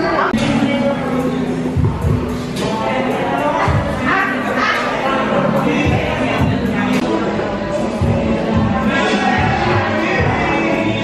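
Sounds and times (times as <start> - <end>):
loud music with bass beat: 0.3 - 11.0.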